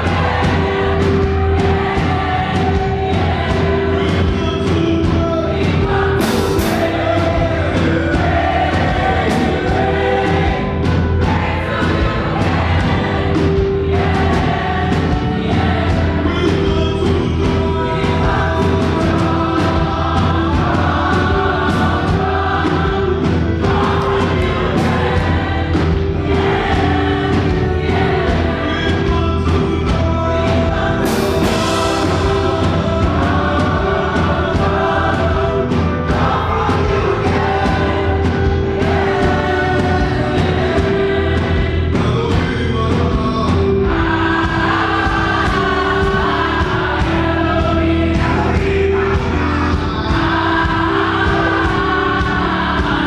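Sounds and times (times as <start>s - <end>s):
band with driving beat: 0.0s - 53.0s
choir singing: 0.0s - 53.0s.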